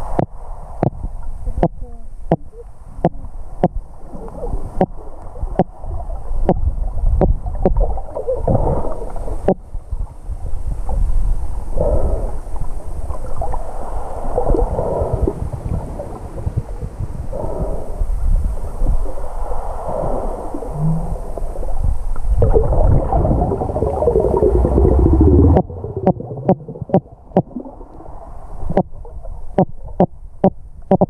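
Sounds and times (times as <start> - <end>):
underwater rumble of moving water: 0.0 - 30.9
muffled underwater whooshing: 3.7 - 30.4.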